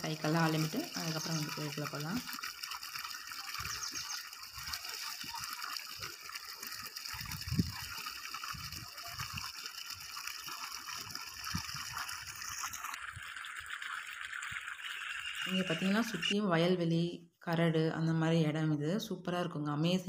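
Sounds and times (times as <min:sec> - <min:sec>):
water gushing from a pipe: 0:00.0 - 0:16.4.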